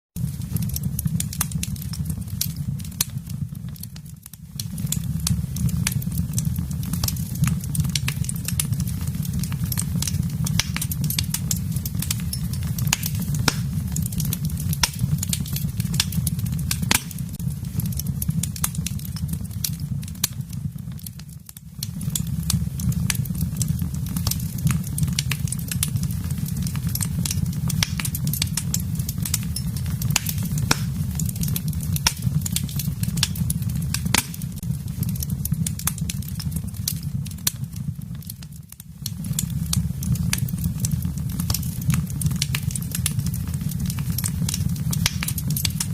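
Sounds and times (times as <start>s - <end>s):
wood fire crackling: 0.2s - 45.9s.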